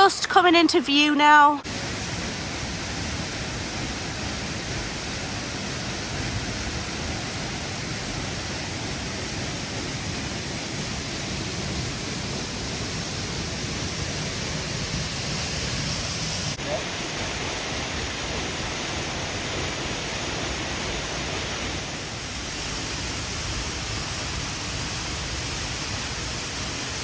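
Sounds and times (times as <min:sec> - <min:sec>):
waterfall rushing: 0:01.6 - 0:27.0.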